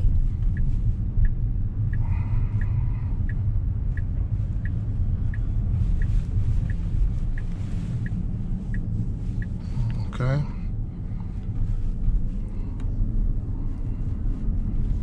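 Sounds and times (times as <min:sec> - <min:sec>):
turn signal ticking: 0:00.0 - 0:13.4
low rumble of road noise: 0:00.0 - 0:15.0.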